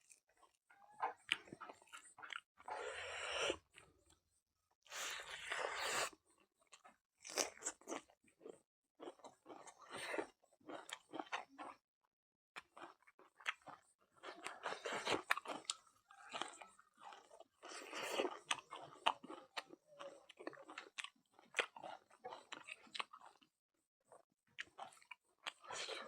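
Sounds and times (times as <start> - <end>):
chewing and crunching food: 0.0 - 11.8, 12.6 - 26.0.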